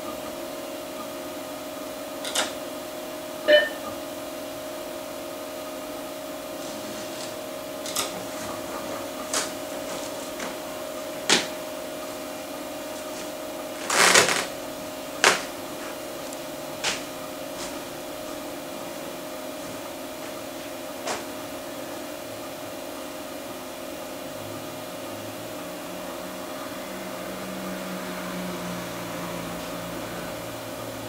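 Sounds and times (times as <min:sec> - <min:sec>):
hard drive spinning hum: 0:00.0 - 0:31.0.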